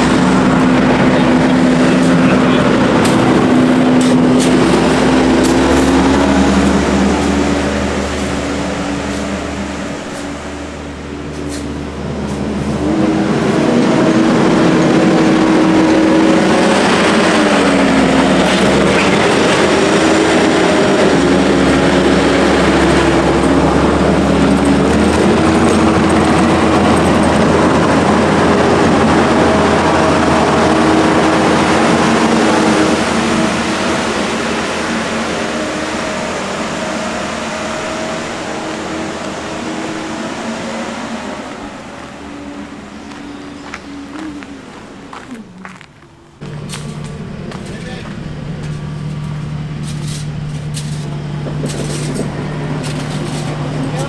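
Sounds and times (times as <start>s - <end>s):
engine running under changing load: 0.0s - 54.0s.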